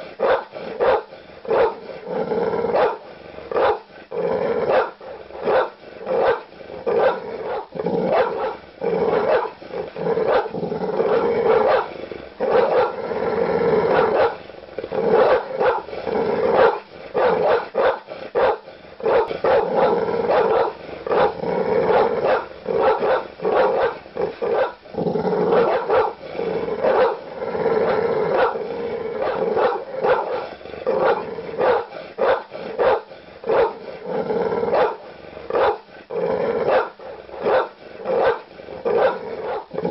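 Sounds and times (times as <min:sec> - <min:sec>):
large dog barking: 0:00.0 - 0:34.0, 0:34.6 - 0:39.9
dog growling: 0:00.0 - 0:39.9.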